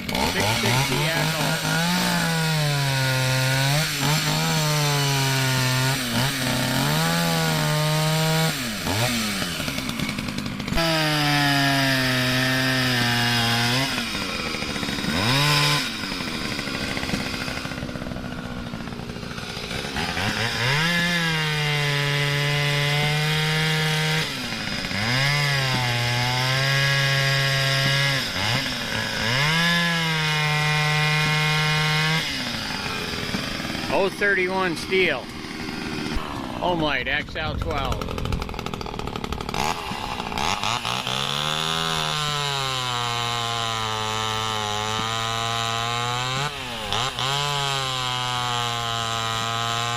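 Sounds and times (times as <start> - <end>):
chainsaw revving and idling: 0.0 - 49.9.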